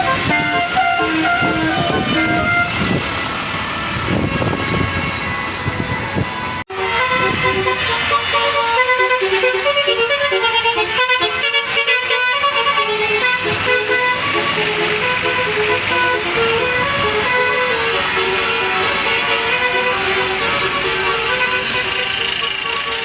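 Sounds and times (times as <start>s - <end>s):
bus horn playing a melody: 0.0s - 23.0s.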